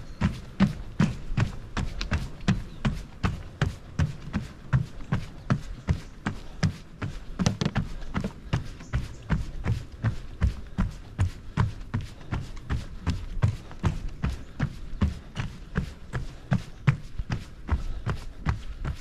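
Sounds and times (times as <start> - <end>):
running footsteps on boardwalk: 0.0 - 19.0.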